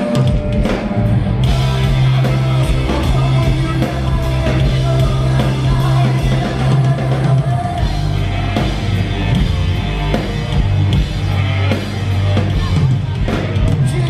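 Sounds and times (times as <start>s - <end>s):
drum kit: 0.0s - 14.0s
electric guitars: 0.0s - 14.0s
heavy bass line: 0.0s - 14.0s.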